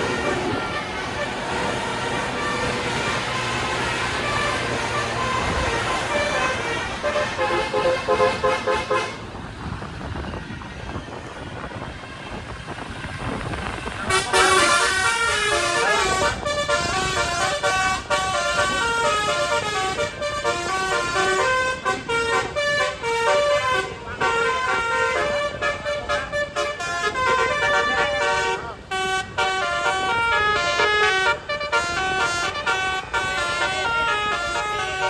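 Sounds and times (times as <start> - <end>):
bus multi-tone horns playing notes: 0.0 - 35.0
engine and traffic noise: 0.0 - 35.0.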